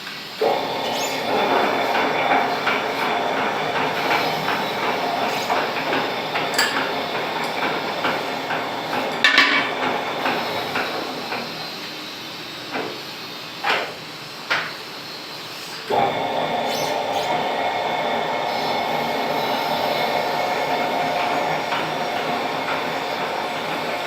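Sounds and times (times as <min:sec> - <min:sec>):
lathe machining noise: 0:00.0 - 0:24.0.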